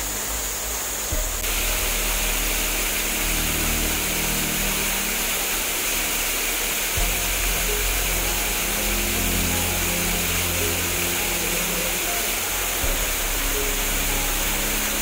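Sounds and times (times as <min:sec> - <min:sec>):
music with low held notes: 0:00.0 - 0:15.0
waterfall rushing: 0:00.0 - 0:15.0.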